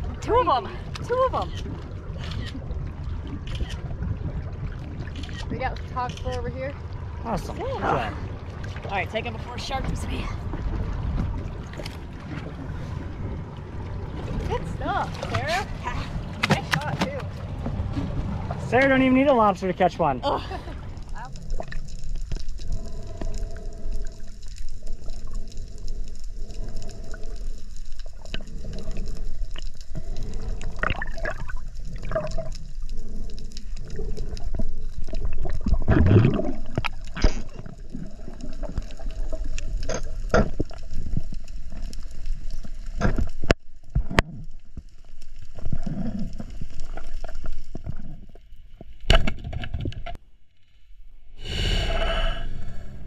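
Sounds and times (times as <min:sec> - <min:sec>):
water sloshing and gurgling: 0:00.0 - 0:53.0.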